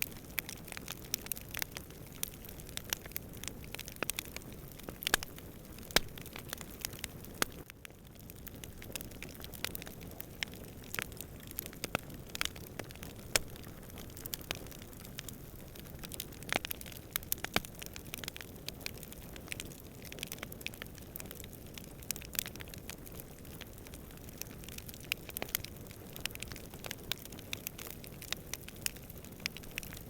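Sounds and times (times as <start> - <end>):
campfire crackling and popping: 0.0 - 30.0
low rumble of flame: 0.0 - 30.0.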